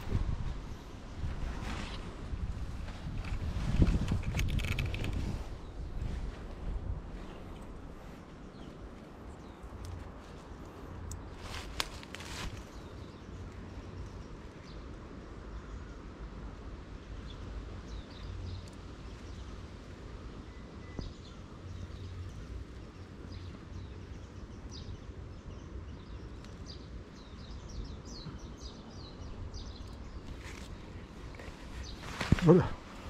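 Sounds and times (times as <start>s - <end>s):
small birds chirping: 0.0s - 33.0s
steady low rumble: 0.0s - 33.0s.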